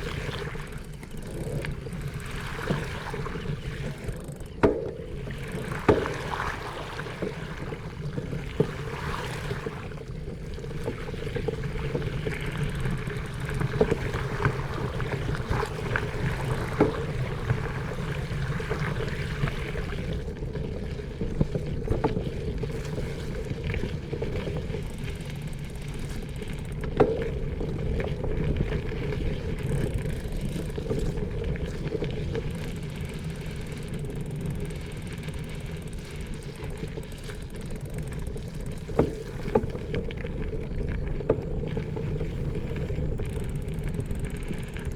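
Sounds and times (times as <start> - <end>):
bicycle tyre and drivetrain hum: 0.0 - 44.9.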